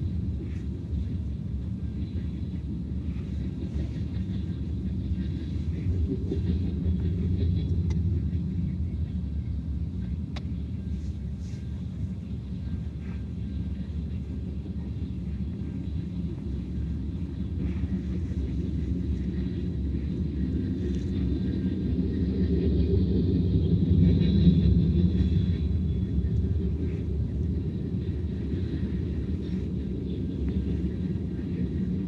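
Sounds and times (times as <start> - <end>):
train passing rumble: 0.0 - 32.0.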